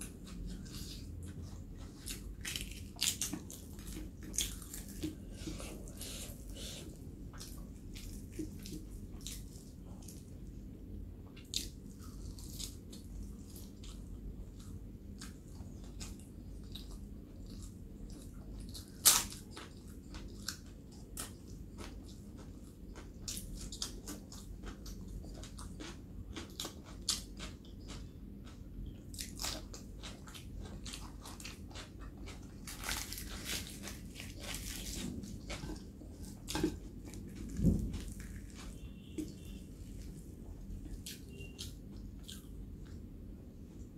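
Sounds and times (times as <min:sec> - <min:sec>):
person chewing with wet mouth sounds: 0:00.0 - 0:43.0.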